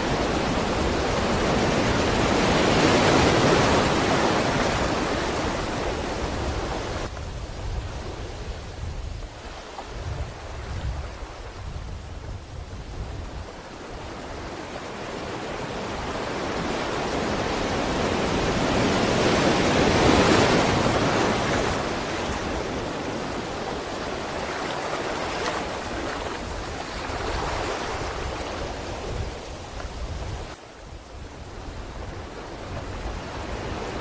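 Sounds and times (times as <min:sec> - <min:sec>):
sea waves breaking on shore: 0:00.0 - 0:34.0.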